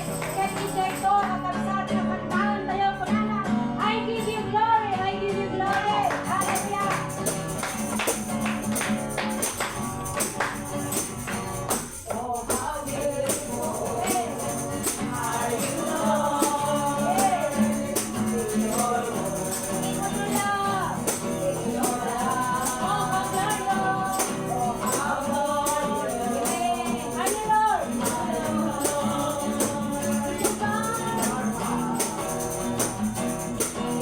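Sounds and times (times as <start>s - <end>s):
tambourine beat: 0.0s - 1.2s, 6.0s - 34.0s
voices singing: 0.0s - 9.1s, 9.9s - 34.0s.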